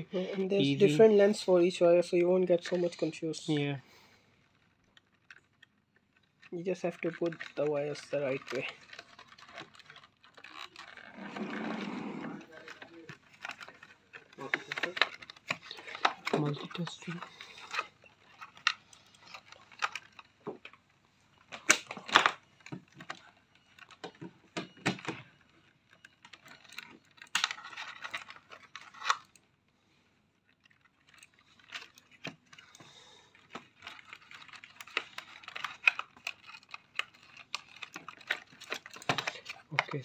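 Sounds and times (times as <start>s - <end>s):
wires rustling: 0.0s - 40.0s.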